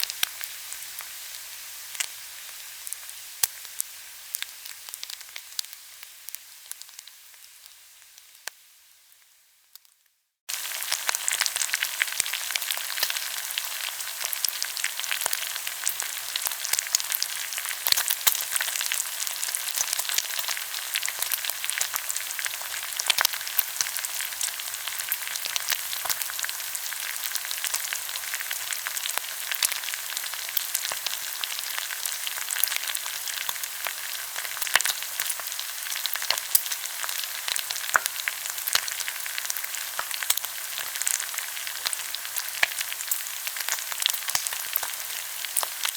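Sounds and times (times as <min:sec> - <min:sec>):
meat sizzling and crackling: 0:00.0 - 0:45.9.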